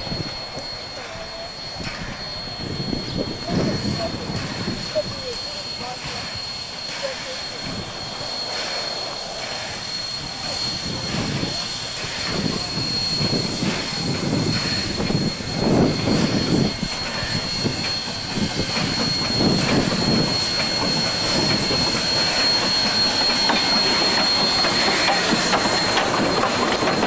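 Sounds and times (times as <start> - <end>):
steam train rolling rumble: 0.0 - 27.0
train wheel clatter: 0.0 - 27.0.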